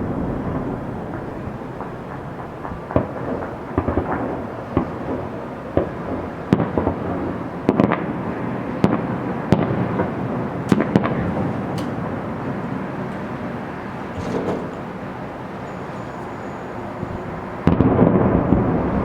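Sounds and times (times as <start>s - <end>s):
firework bangs: 0.0s - 19.0s
rumble of firework bursts: 0.0s - 19.0s.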